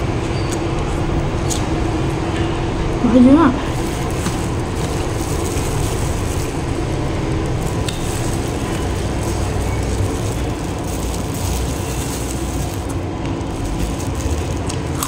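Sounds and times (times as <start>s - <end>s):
machinery rumble and hiss: 0.0s - 15.0s.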